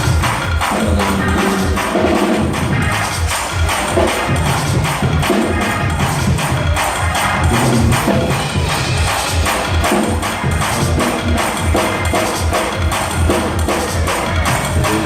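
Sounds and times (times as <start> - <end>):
drums: 0.0 - 15.0
pulsing bass: 0.0 - 15.0.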